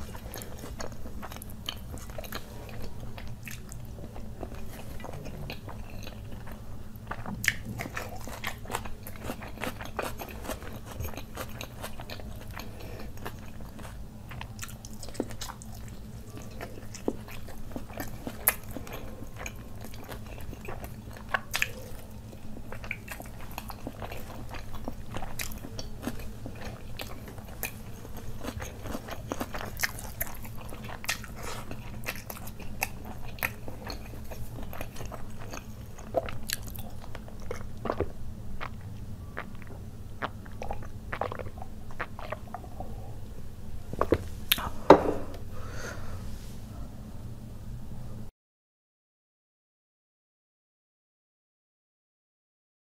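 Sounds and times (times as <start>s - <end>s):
crunchy chewing: 0.0s - 43.2s
low steady hum: 0.0s - 48.3s.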